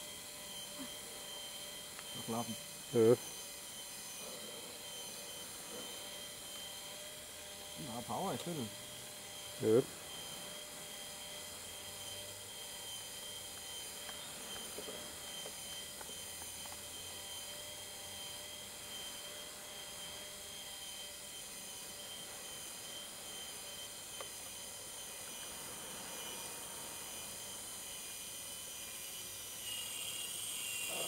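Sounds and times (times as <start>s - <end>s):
small electric motor whine: 0.0s - 31.0s.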